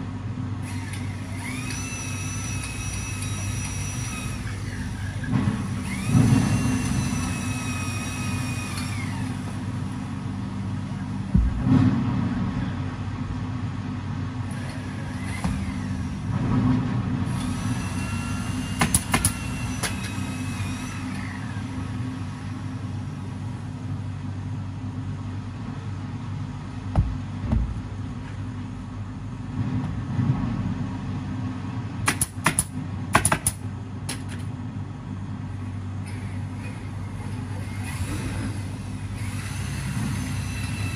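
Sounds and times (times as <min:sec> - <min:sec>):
low machinery hum: 0:00.0 - 0:40.9.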